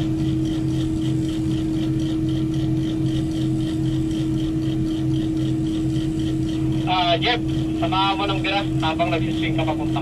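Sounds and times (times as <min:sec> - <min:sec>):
diesel engine pulsing hum: 0:00.0 - 0:10.0.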